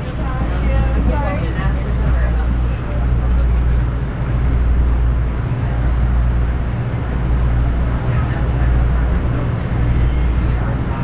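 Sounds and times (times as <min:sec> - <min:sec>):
train car rumble and hum: 0:00.0 - 0:11.0.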